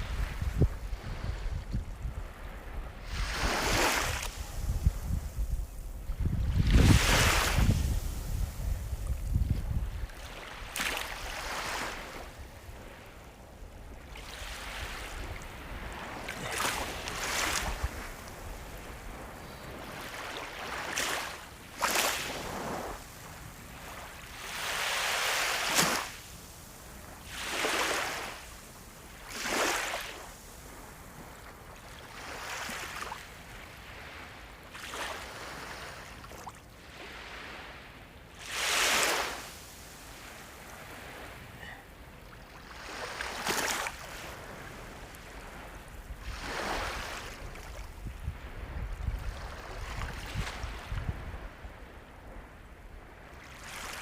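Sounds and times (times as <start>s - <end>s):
sea waves washing on shore: 0.0s - 54.0s.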